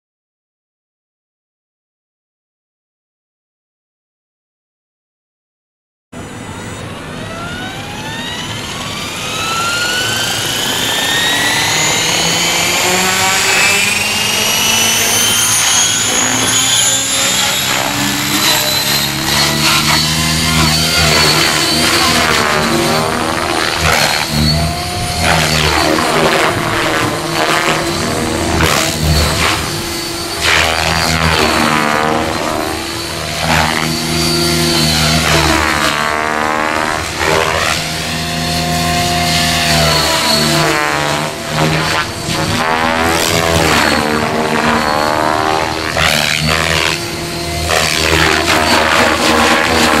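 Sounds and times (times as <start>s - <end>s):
electric motor whine: 6.2s - 50.0s
rotor blades whirring: 6.2s - 50.0s.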